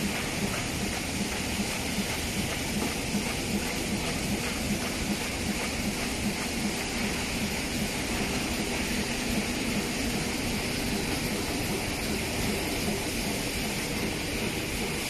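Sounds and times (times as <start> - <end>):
die-cutting machine hiss and pulse: 0.0 - 15.0.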